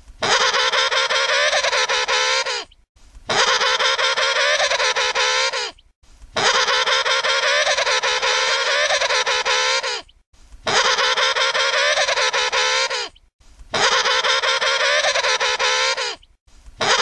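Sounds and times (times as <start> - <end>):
penguin trumpeting call: 0.2 - 2.7, 3.3 - 5.8, 6.4 - 10.0, 10.7 - 13.1, 13.7 - 16.2, 16.8 - 17.0.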